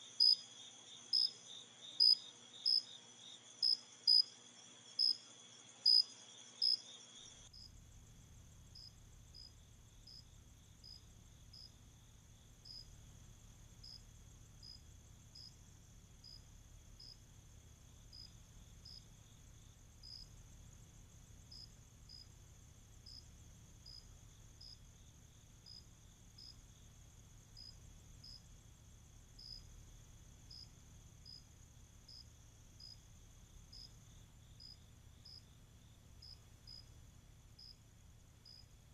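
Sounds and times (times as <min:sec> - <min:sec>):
cricket chirping: 0:00.0 - 0:38.9
high insect drone: 0:00.0 - 0:38.9.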